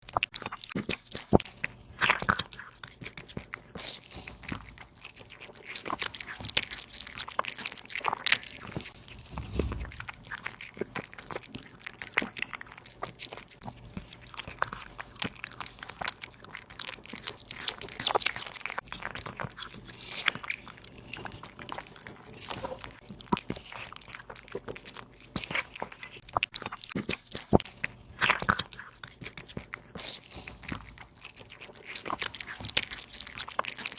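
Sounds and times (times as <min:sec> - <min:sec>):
cat crunching food: 0:00.0 - 0:33.9.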